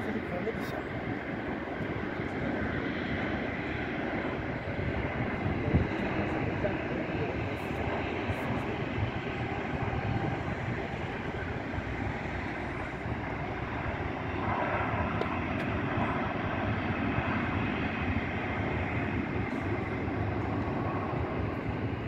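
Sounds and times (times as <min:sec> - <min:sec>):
distant jet engines rushing: 0:00.0 - 0:22.0.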